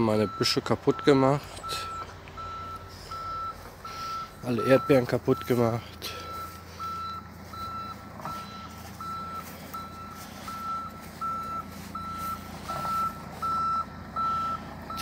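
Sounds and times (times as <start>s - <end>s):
low engine hum: 0.0s - 15.0s
reversing alarm beeping: 0.0s - 15.0s.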